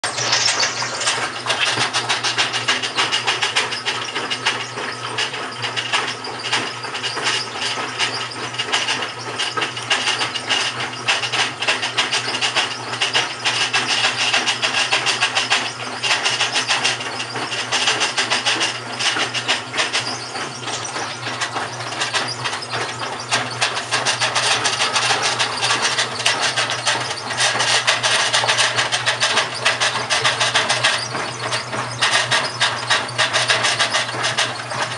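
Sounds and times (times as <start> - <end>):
motor hum: 0.0 - 34.9
washing machine grinding rattle: 0.0 - 34.9.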